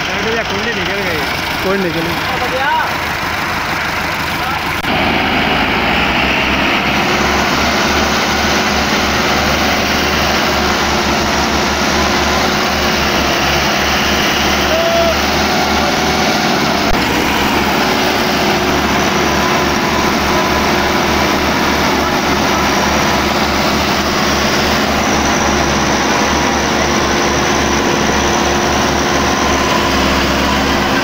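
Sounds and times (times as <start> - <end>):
tractor diesel engines under load: 0.0 - 31.0.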